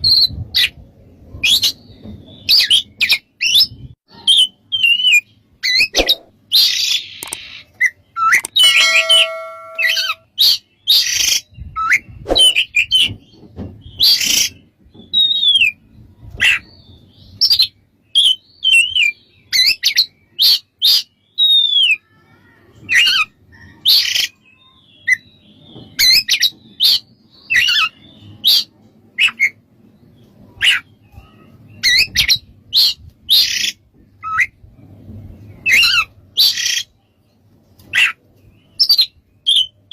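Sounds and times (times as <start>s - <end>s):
magpie-robin singing: 1.4s - 15.8s, 16.4s - 22.2s, 22.9s - 34.6s, 35.6s - 37.0s, 37.9s - 39.9s.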